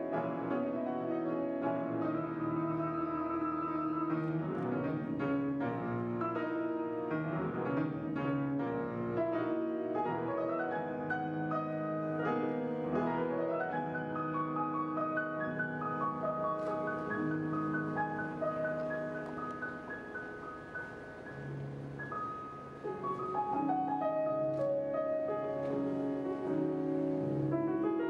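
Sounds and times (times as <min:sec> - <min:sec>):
classical grand piano: 0:00.0 - 0:28.0.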